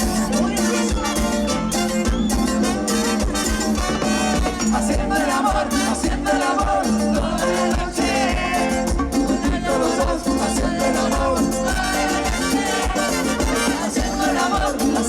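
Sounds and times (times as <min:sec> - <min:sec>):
latin dance band playing: 0:00.0 - 0:15.0.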